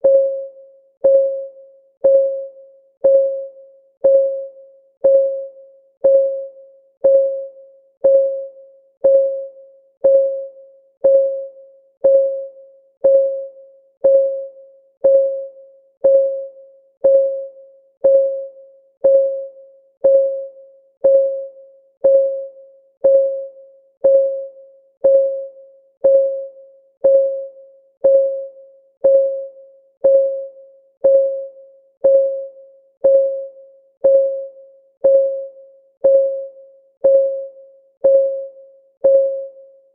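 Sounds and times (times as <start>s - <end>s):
timer clock ticking: 1.0s - 1.4s, 2.0s - 39.6s.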